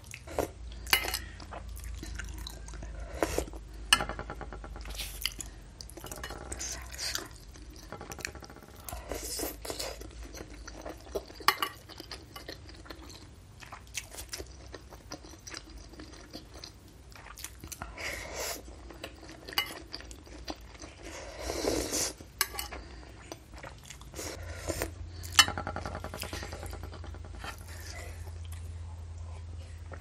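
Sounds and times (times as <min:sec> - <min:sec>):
chewing and slurping soup: 0:00.0 - 0:30.0.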